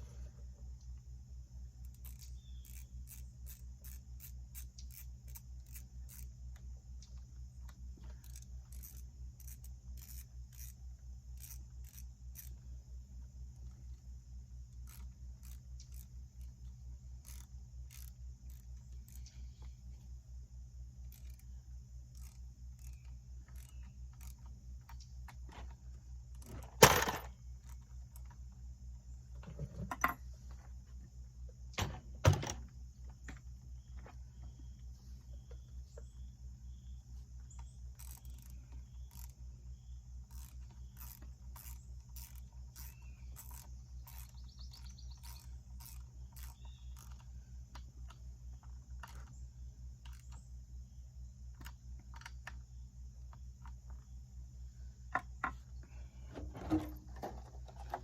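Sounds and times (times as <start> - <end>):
handling clicks and scrapes: 1.8 - 20.2, 21.0 - 50.6, 51.4 - 54.2, 55.1 - 58.0.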